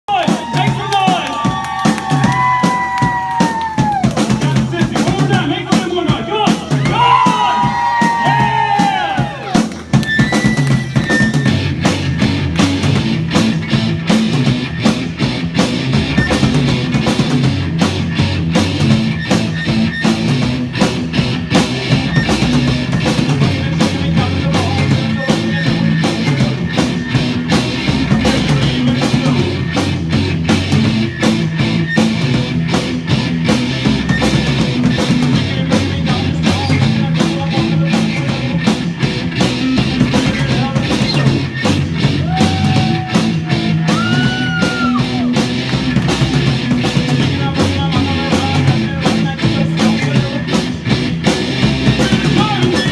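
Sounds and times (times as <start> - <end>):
rock band playing: 0.1 - 52.9.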